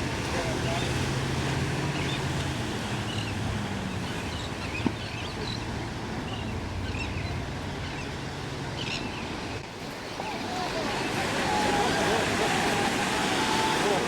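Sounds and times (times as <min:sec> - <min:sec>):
boat engine humming: 0:00.0 - 0:14.0
waves and water: 0:00.0 - 0:14.0.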